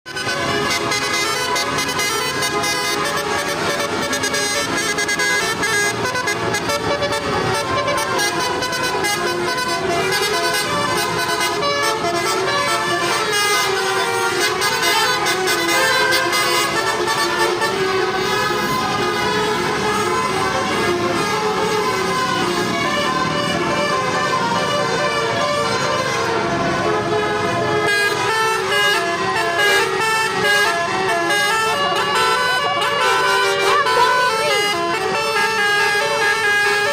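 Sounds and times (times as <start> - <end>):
multi-tone bus horn melody: 0.0 - 36.9.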